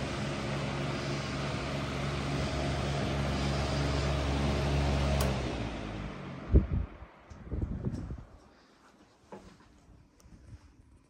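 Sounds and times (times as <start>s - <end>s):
floor fan running: 0.0s - 11.0s.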